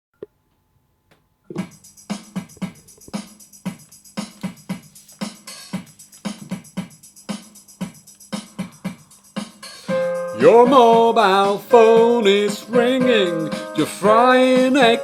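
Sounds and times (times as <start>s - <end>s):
instrumental music with drum beat: 1.5s - 15.0s.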